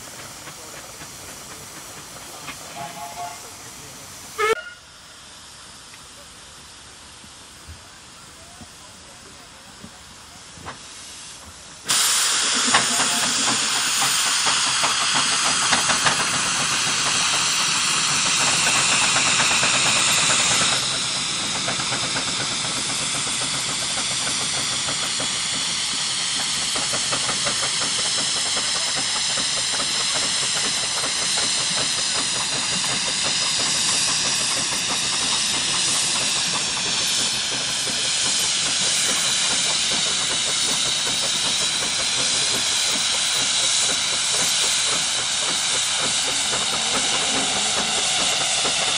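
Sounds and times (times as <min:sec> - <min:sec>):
steam engine beats: 0:00.0 - 0:05.8, 0:09.7 - 0:48.9
loud steam hiss: 0:00.0 - 0:48.9.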